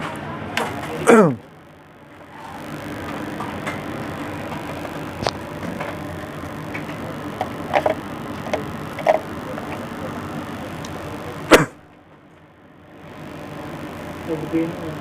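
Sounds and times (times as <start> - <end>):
hot-air station hissing: 0.0 - 11.9, 12.6 - 15.0.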